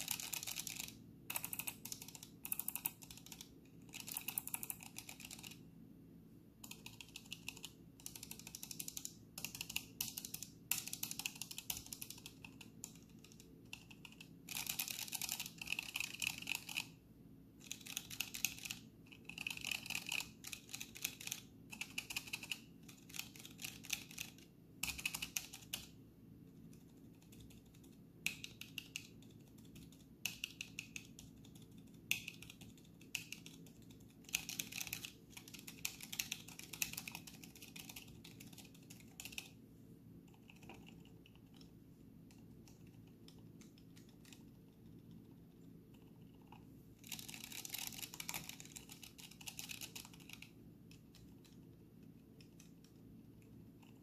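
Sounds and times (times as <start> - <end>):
keyboard typing: 0.0 - 5.6, 6.6 - 17.0, 17.6 - 26.0, 26.6 - 39.6, 40.2 - 54.0.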